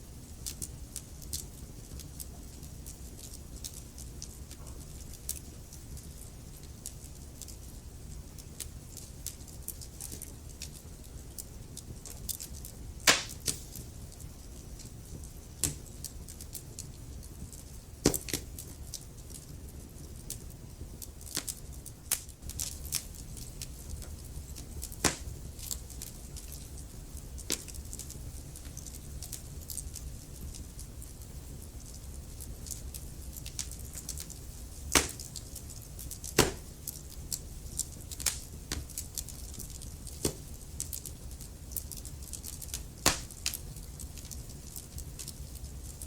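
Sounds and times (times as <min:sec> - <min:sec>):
wood fire crackling: 0:00.0 - 0:46.0
fire popping: 0:00.2 - 0:46.0.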